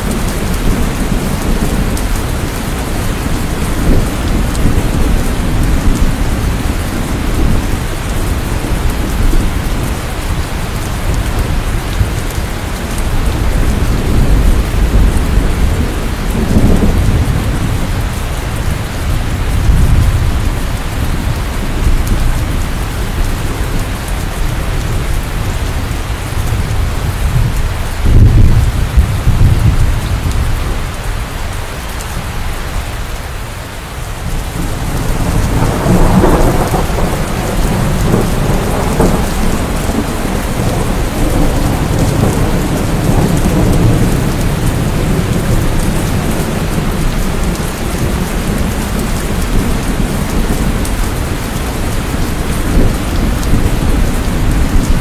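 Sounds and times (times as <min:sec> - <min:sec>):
thunder rumbling: 0:00.0 - 0:32.9, 0:34.2 - 0:55.0
heavy rain: 0:00.0 - 0:55.0.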